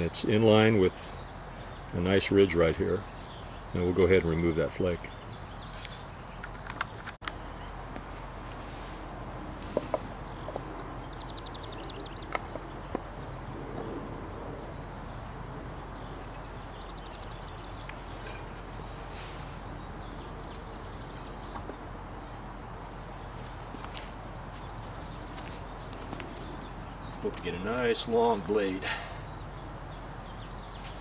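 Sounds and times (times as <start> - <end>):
steady background hiss: 0.0 - 13.5, 14.6 - 31.0
small birds chirping: 0.0 - 31.0.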